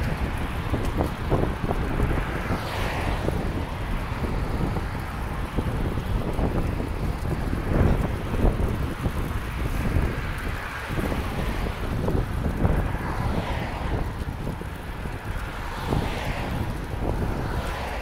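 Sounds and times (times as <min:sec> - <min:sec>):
road traffic passing: 0:00.0 - 0:18.0
wind buffeting microphone: 0:00.0 - 0:18.0.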